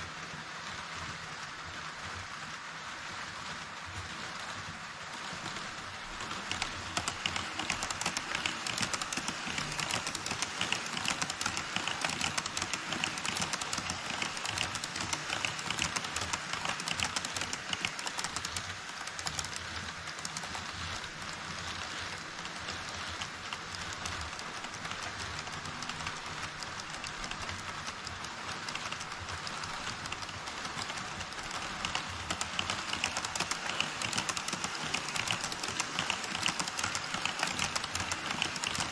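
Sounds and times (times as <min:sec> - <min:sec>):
model trains rolling hiss: 0:00.0 - 0:38.9.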